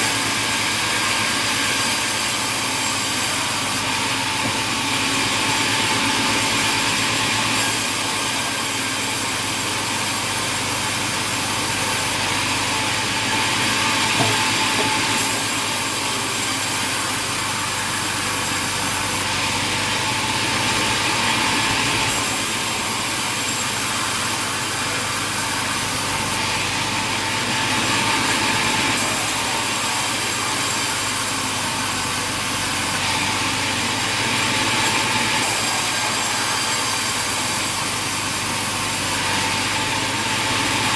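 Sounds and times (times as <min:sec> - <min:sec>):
hissy saw cut: 0:00.0 - 0:40.9
sawmill machinery running: 0:00.0 - 0:40.9.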